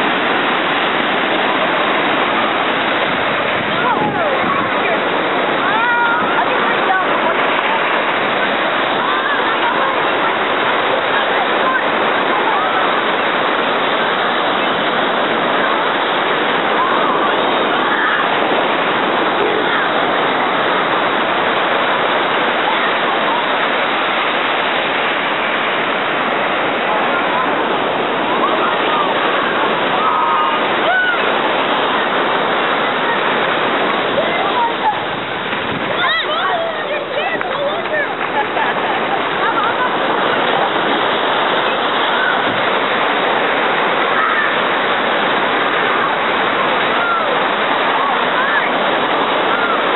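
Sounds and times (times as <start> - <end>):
ocean surf breaking: 0.0 - 49.9.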